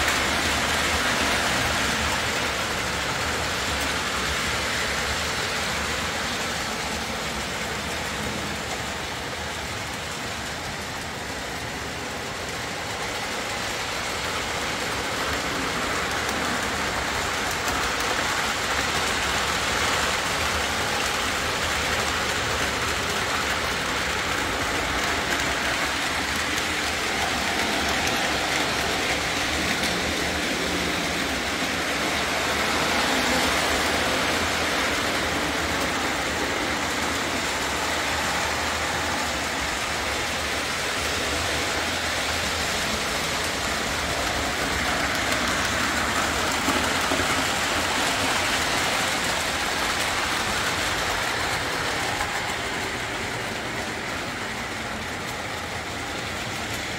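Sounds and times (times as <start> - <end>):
model train motor whirring: 0.0 - 56.9.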